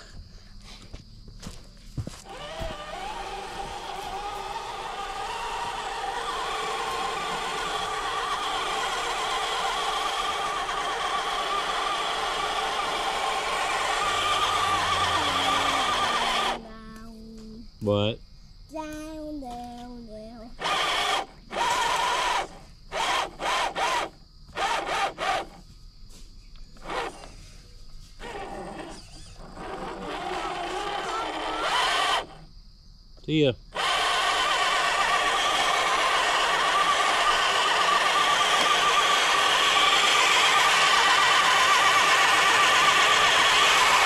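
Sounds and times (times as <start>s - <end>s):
toy truck drivetrain whining: 1.4s - 17.1s, 19.6s - 25.7s, 26.5s - 32.5s, 33.7s - 44.0s.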